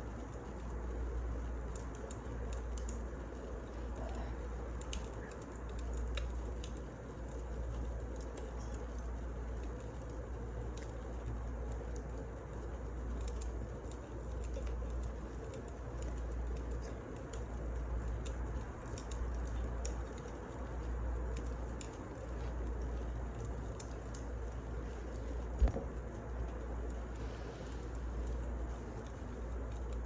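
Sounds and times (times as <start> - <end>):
logs crackling and popping: 0.0 - 30.0
wood fire low rush: 0.0 - 30.0.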